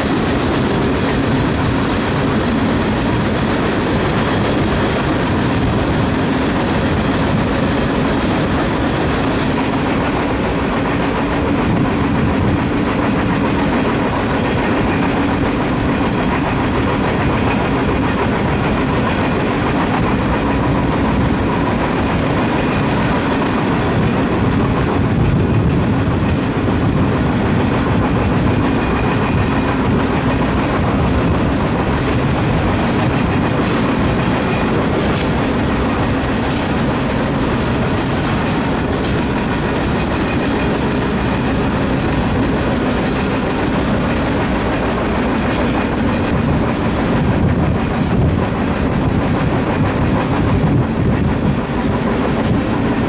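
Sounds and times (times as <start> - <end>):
clickety-clack of wheels: 0.0 - 53.0
train wheels rumbling on rails: 0.0 - 53.0.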